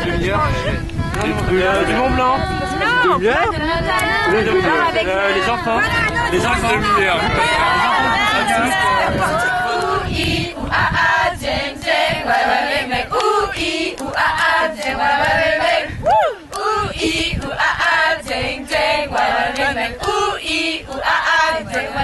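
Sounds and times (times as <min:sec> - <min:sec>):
young women singing a chant: 0:00.4 - 0:22.0.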